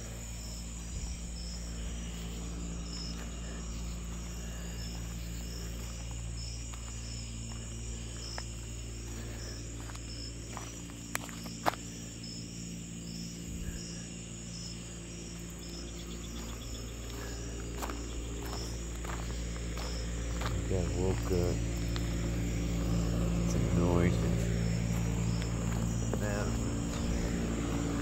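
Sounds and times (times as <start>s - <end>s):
crickets chirping: 0.0s - 28.0s
steady low hum: 0.0s - 28.0s.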